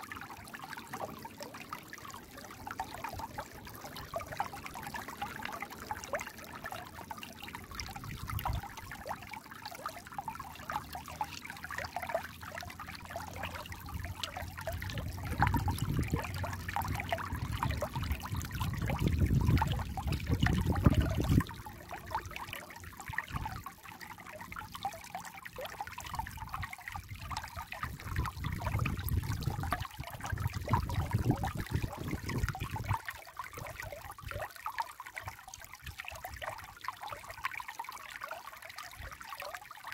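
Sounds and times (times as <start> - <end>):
stream bubbling over rocks: 0.0 - 39.9.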